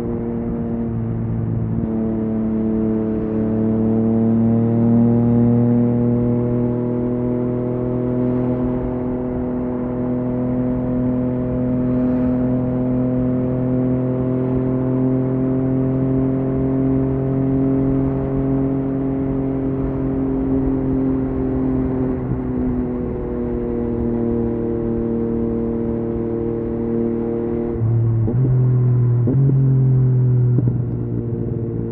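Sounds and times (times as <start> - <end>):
motorcycle engine cruising: 0.0 - 31.9.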